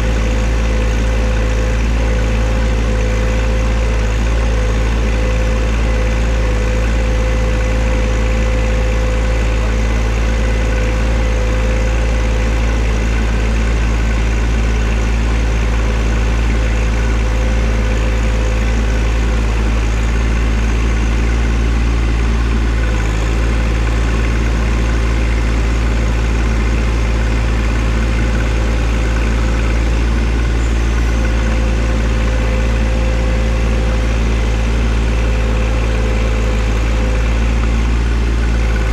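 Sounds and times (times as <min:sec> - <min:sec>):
tractor diesel engine humming: 0:00.0 - 0:38.9.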